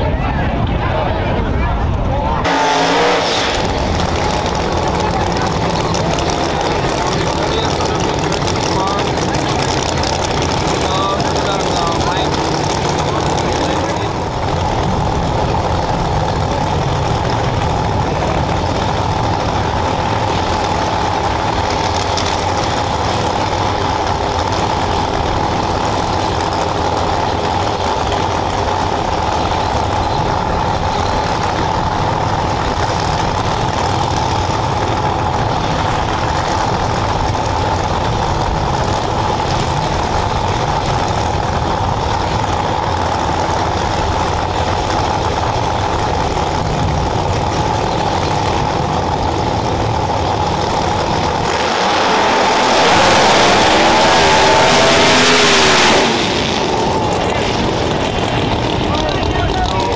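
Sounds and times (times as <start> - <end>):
race car engines idling: 0.0 - 59.9.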